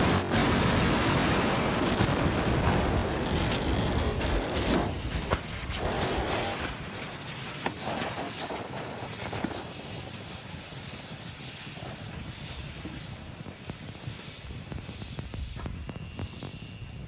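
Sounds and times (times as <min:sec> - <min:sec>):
low rumble of explosion and fire: 0:00.0 - 0:17.0.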